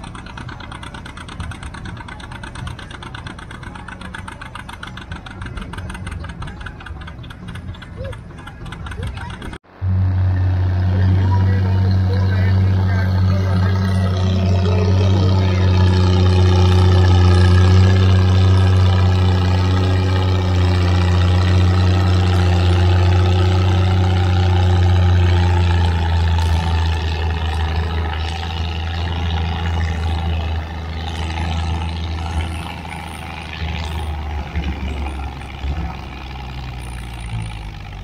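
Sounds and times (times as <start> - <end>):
tractor engine under heavy load: 0.0 - 38.0.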